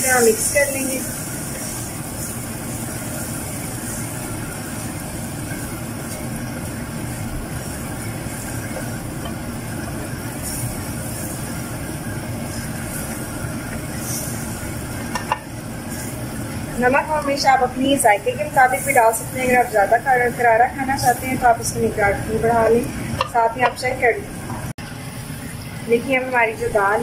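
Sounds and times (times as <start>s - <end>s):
wooden spoon stirring in pot: 0.0s - 24.7s
low sizzle: 0.0s - 27.0s.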